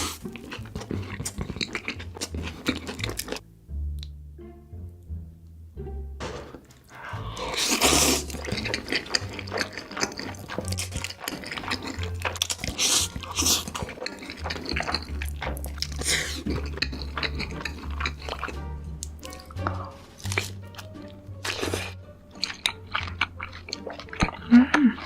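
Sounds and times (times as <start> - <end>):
food being chewed: 0.0 - 3.4, 6.8 - 25.0
background music with plucked bass: 0.0 - 24.9.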